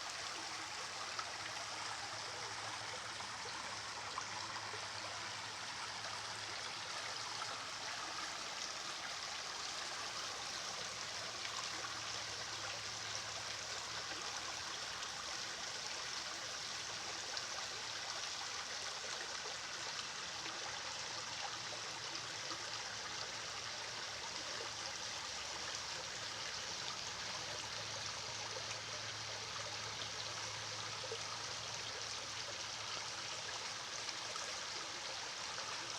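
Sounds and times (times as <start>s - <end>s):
stream water flowing: 0.0s - 35.9s.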